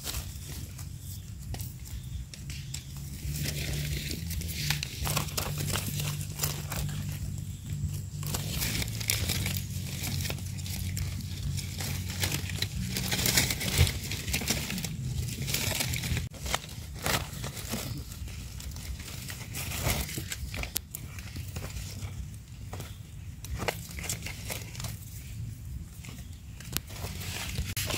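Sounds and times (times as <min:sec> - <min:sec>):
dry leaves crackling and rustling: 0:00.0 - 0:27.9.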